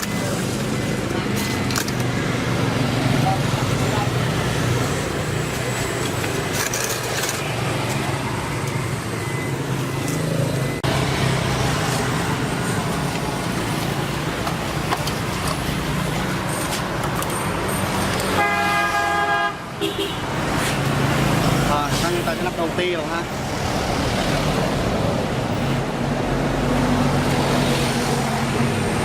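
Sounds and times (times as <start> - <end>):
road traffic with engine rumble: 0.0 - 29.0.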